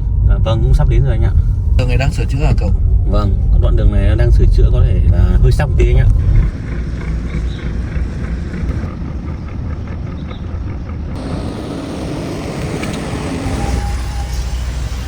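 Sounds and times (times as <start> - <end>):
car road rumble inside cabin: 0.0 - 15.0.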